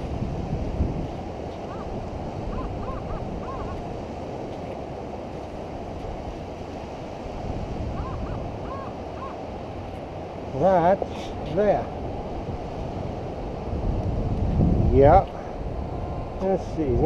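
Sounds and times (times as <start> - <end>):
surf washing at shore: 0.0 - 17.0
wind buffeting microphone: 0.0 - 17.0.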